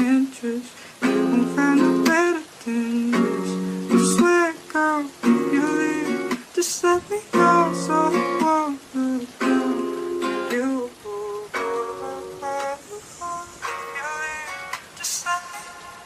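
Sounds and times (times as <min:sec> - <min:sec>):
plucked acoustic guitar: 0:00.0 - 0:15.7
person singing: 0:00.0 - 0:16.0.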